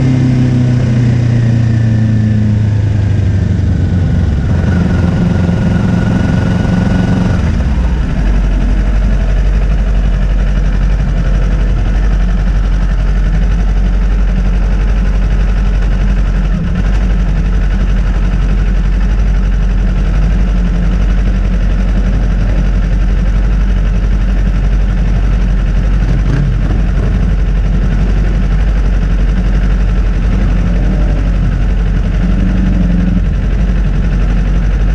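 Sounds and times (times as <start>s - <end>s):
heavy low rumble and roar: 0.0s - 34.9s
motorcycle engine running: 0.0s - 34.9s.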